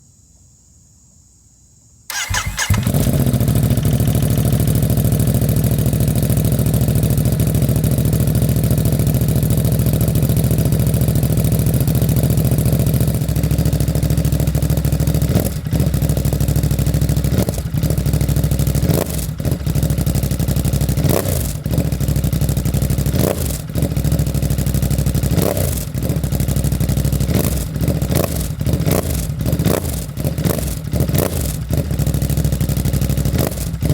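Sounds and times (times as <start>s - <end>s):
motorcycle engine idling: 2.1s - 33.9s
motorcycle throttle blips: 2.1s - 33.9s.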